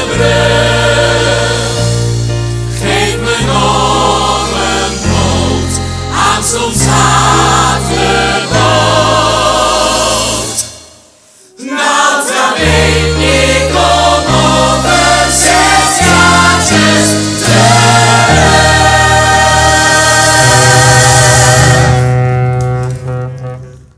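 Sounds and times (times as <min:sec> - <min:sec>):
orchestral accompaniment: 0:00.0 - 0:11.2, 0:12.3 - 0:23.6
ensemble singing in chorus: 0:00.0 - 0:22.2.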